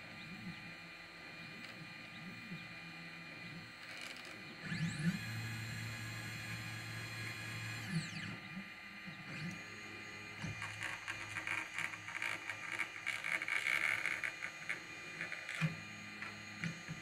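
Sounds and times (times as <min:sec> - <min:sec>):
cnc router motors buzzing: 0:00.0 - 0:17.0.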